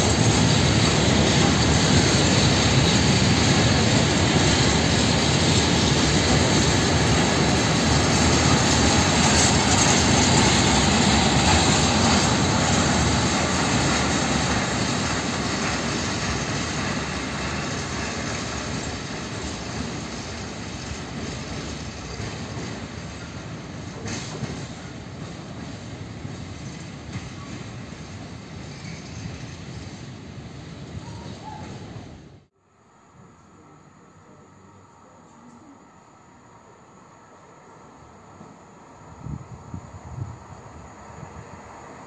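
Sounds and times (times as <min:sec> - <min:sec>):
freight train wheels rumbling on track: 0:00.0 - 0:32.6, 0:36.7 - 0:42.0.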